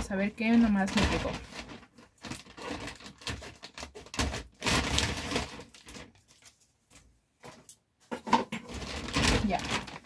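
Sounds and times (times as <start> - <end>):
plastic bag crackling: 0.0 - 6.8, 8.7 - 10.0.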